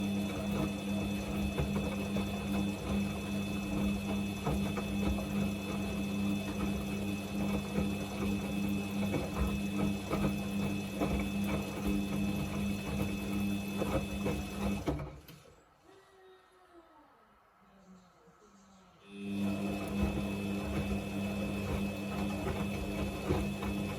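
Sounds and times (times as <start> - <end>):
washing machine motor hum: 0.0 - 15.6, 19.1 - 23.9
washing machine clicks and rattles: 0.1 - 15.4, 19.4 - 23.9.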